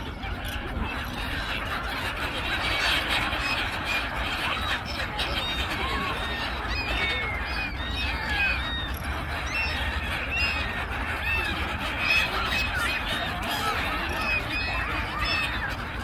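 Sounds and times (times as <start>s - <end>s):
gulls calling: 0.0s - 16.0s.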